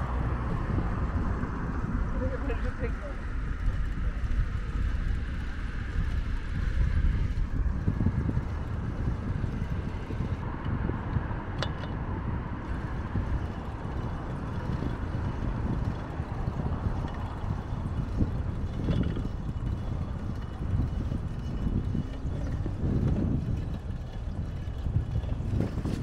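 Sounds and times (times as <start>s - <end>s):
car traffic: 0.0s - 26.0s
wind buffeting microphone: 0.0s - 26.0s.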